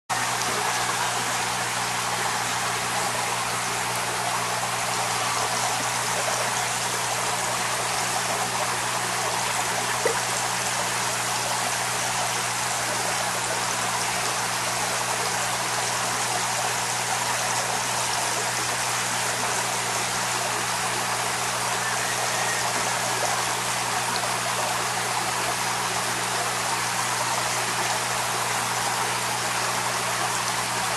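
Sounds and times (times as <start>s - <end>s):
running water rushing: 0.1s - 30.9s.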